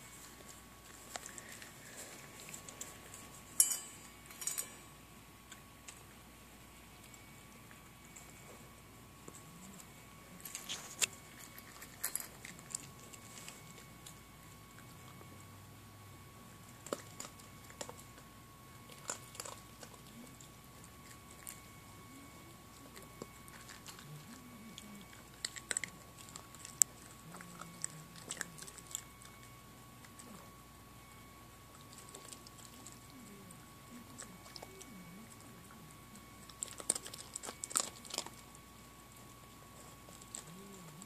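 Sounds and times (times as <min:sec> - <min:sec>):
puppy crunching dry kibble: 0:00.0 - 0:41.0.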